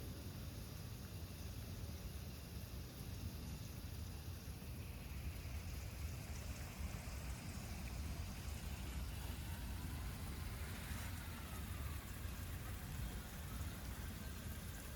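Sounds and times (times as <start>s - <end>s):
even hiss: 0.0s - 14.9s.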